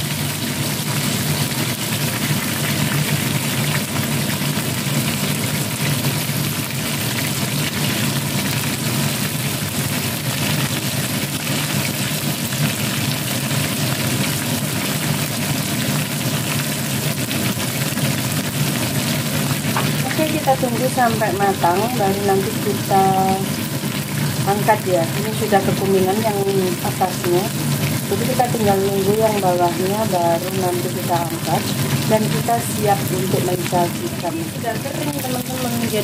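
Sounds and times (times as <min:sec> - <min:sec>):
chicken deep-frying in oil: 0:00.0 - 0:36.0.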